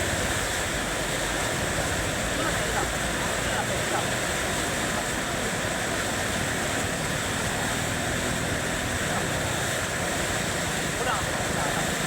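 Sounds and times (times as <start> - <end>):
fast-flowing river water rushing: 0.0 - 12.0.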